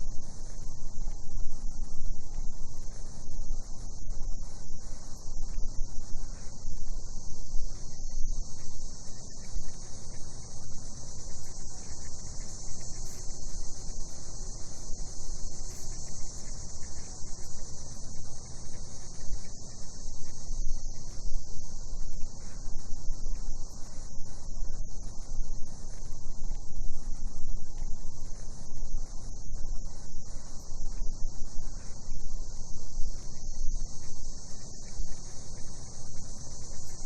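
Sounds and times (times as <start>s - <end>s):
cicadas droning: 0.0s - 37.0s.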